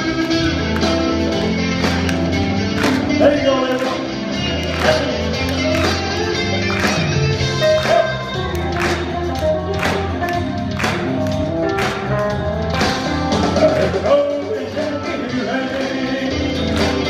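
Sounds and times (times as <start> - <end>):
band playing held chords: 0.0 - 17.0.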